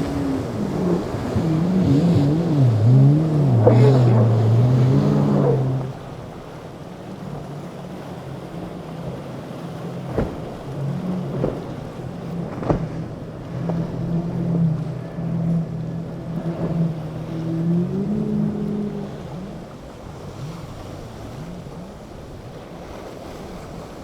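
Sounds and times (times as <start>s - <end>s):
motorboat engines running: 0.0s - 24.0s
water noise: 0.0s - 24.0s
wind: 0.0s - 24.0s.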